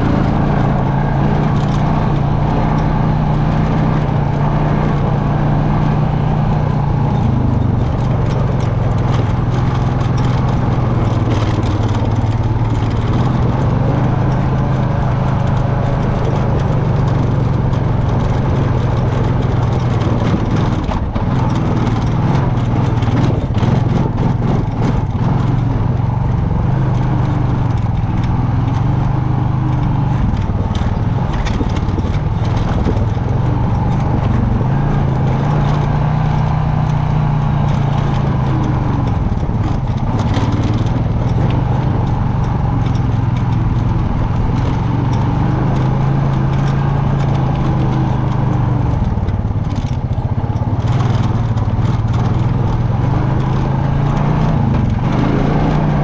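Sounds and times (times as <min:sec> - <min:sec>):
atv engine running: 0:00.0 - 0:56.0
knocks and rattles: 0:00.0 - 0:56.0.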